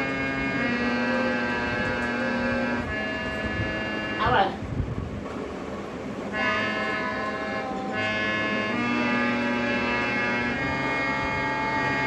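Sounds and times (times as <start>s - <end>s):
harmonium held notes: 0.0s - 4.7s, 6.1s - 12.0s.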